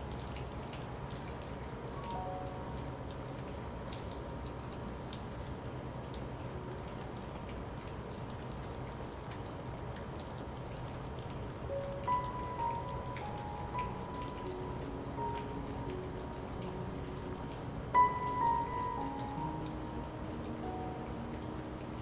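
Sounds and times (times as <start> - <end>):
raindrops ticking: 0.0 - 22.0
steady rain hiss: 0.0 - 22.0.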